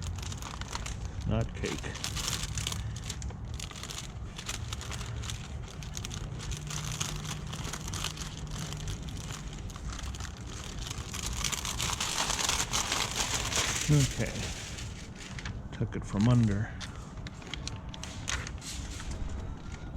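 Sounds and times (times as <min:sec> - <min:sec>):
plastic film crinkling: 0:00.0 - 0:19.9.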